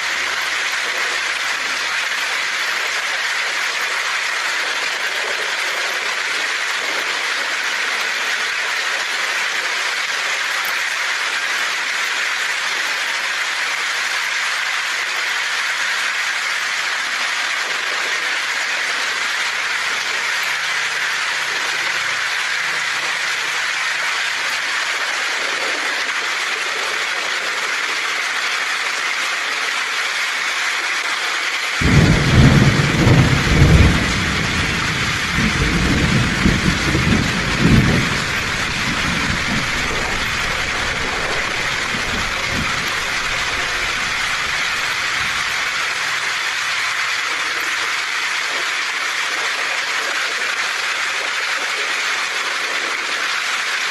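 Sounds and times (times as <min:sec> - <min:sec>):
heavy rain on a tin roof: 0:00.0 - 0:53.9.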